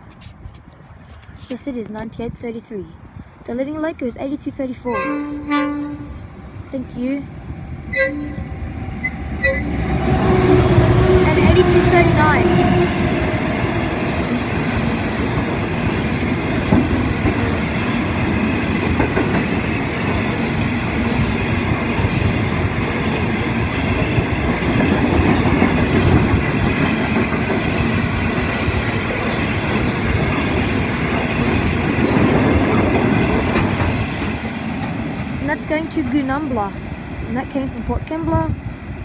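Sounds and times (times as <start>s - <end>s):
freight train wagons rolling past: 3.6s - 39.0s.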